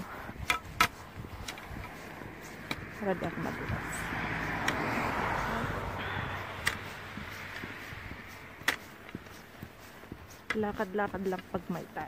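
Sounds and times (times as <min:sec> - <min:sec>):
car passing by: 0:00.0 - 0:09.9.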